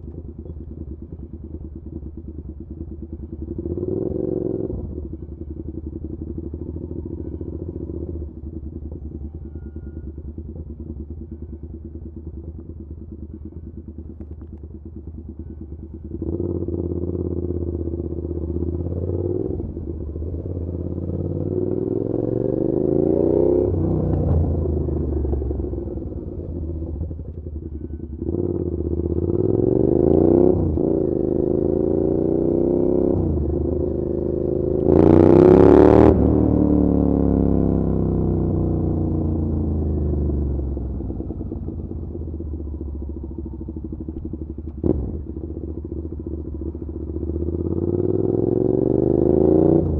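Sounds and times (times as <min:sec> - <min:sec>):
motorcycle engine revving: 0:00.0 - 0:08.6, 0:15.2 - 0:49.9.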